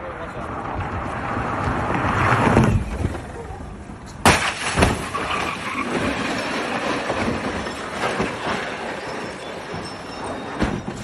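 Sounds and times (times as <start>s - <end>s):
car grinding and scraping: 0.2s - 11.0s.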